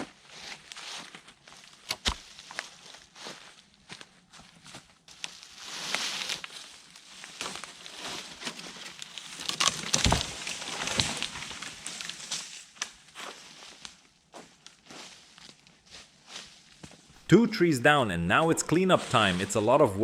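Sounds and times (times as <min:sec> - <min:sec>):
dry leaves and twigs crackling: 0:00.0 - 0:17.0.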